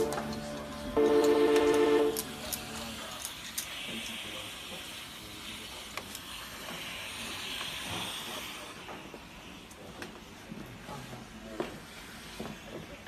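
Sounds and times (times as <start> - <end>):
steam hissing from a nozzle: 2.0 - 13.0.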